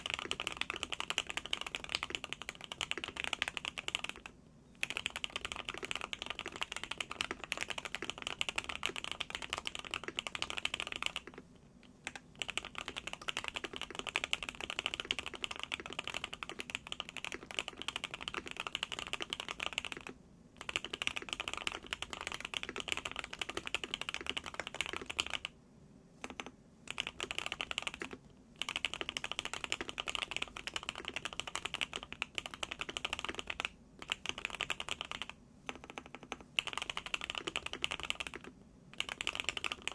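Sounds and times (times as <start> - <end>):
fast typing on mechanical keyboard: 0.0 - 11.4, 12.0 - 25.5, 26.2 - 39.9.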